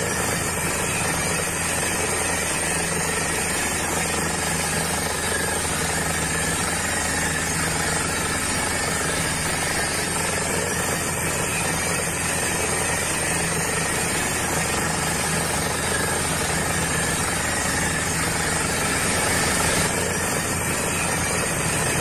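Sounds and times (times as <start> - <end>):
small electric motor humming: 0.0 - 22.0.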